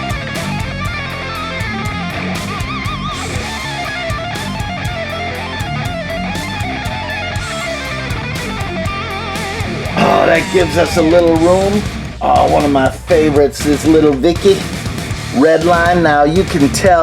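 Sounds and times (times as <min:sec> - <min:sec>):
electric guitar rock music: 0:00.0 - 0:17.0.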